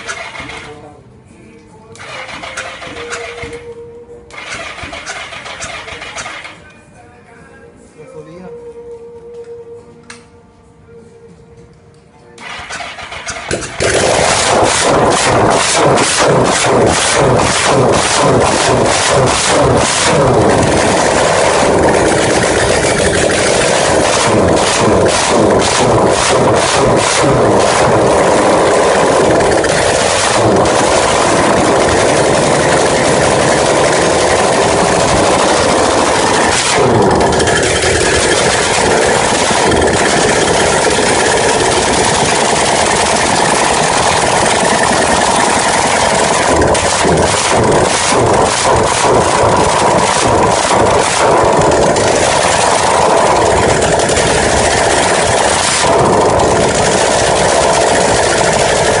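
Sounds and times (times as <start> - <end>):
motorcycle engine running: 0.0 - 1.2, 2.0 - 3.7, 4.3 - 6.8, 12.4 - 59.0.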